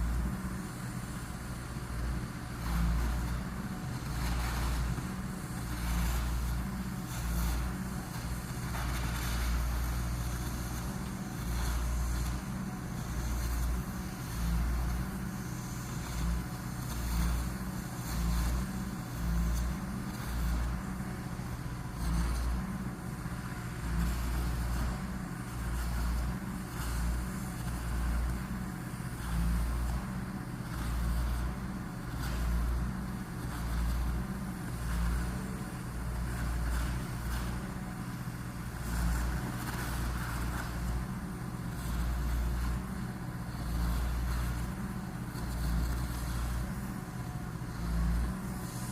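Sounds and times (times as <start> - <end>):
heavy machinery pulsing rumble: 0.0 - 48.9.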